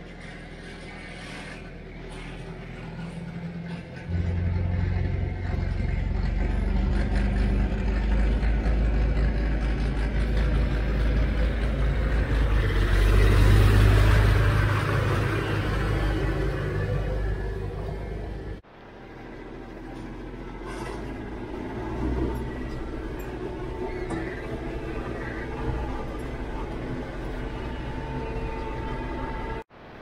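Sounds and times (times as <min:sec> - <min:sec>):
tractor diesel engine driving past: 0:00.0 - 0:30.0.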